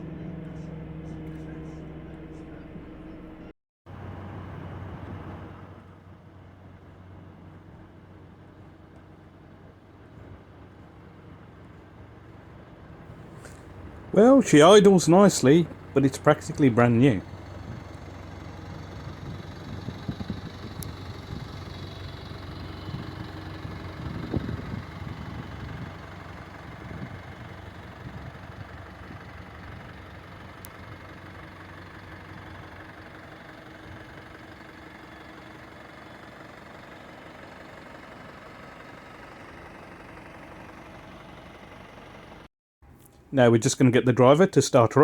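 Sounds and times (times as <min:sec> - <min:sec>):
bus diesel engine idling: 0:00.0 - 0:42.5.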